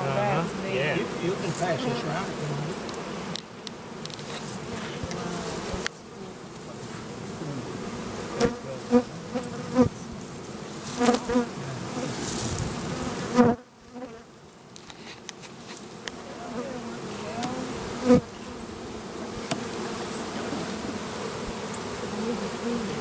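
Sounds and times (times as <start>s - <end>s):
honey bees buzzing: 0.0s - 23.0s.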